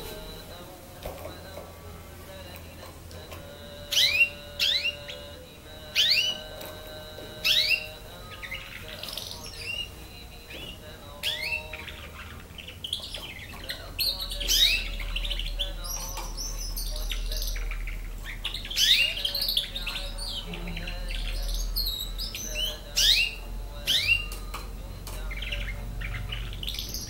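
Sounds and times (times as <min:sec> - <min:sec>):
canary singing: 0:00.0 - 0:27.0.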